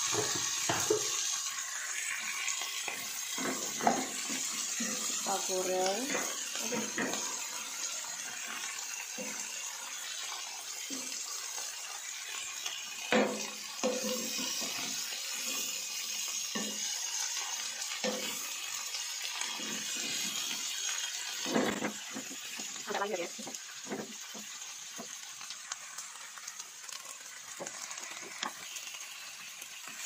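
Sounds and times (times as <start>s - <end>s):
vegetables sizzling in a pan: 0.0s - 30.0s
spatula scraping a pan: 0.1s - 24.6s.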